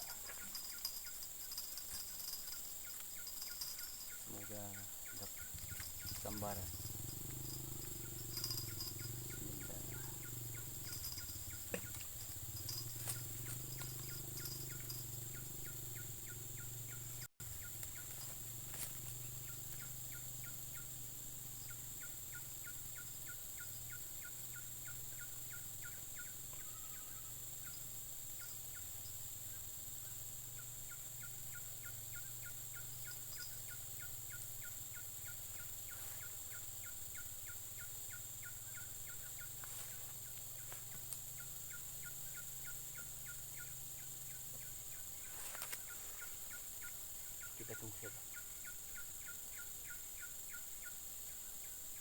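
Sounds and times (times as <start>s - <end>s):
high-pitched insect drone: 0.0s - 52.0s
insect or frog chirping: 0.0s - 52.0s.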